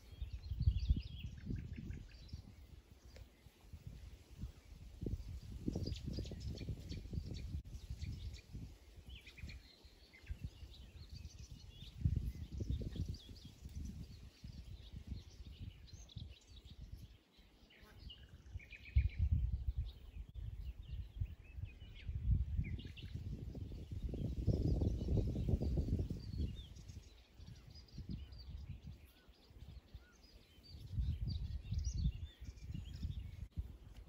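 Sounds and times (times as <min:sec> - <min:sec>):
wind rumble on microphone: 0:00.0 - 0:34.0
birds chirping: 0:04.4 - 0:34.0.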